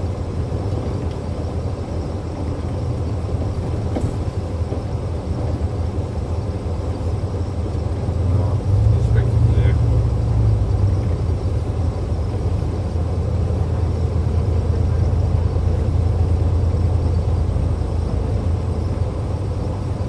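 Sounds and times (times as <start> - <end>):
vehicle driving rumble: 0.0 - 20.0.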